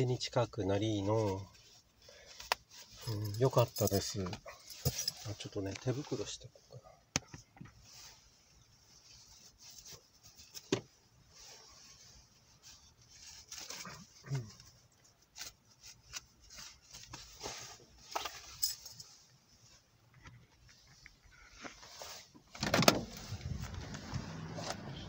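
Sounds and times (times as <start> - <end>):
gloves rustling: 0.8 - 7.1, 7.7 - 25.0.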